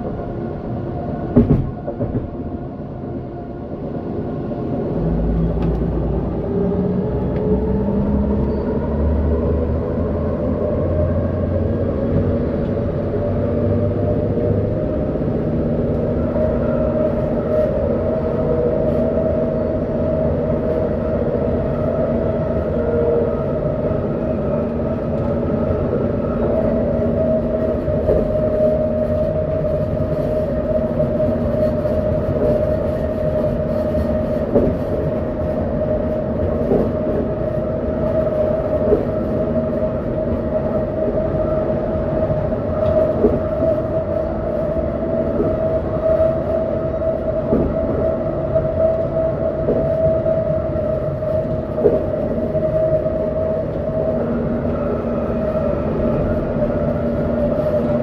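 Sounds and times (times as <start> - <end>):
train running at speed: 0.0 - 58.0.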